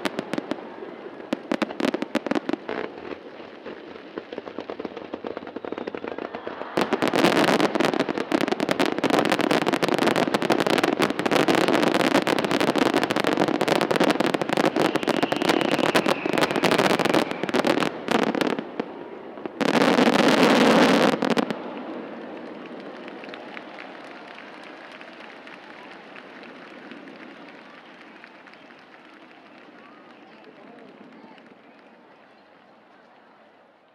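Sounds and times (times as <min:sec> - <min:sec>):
fireworks bursting and crackling: 0:00.0 - 0:33.2.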